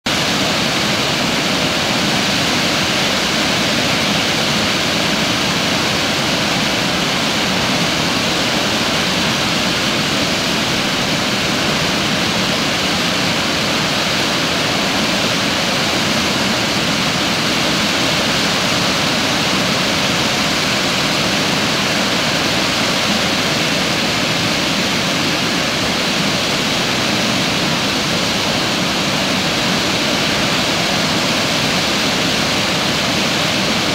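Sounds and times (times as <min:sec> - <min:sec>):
water rushing over dam spillway: 0:00.1 - 0:33.9.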